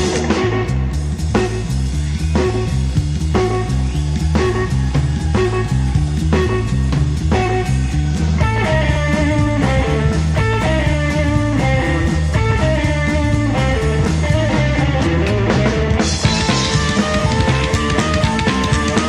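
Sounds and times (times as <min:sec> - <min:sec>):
drums and cymbals: 0:00.0 - 0:19.0
electric guitar lead line: 0:00.0 - 0:19.0
upright bass line: 0:00.0 - 0:19.0.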